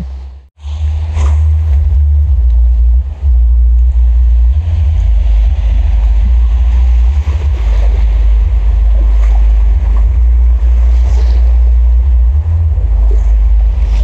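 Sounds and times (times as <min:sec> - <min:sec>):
heavy wind buffeting microphone: 0:00.0 - 0:14.0.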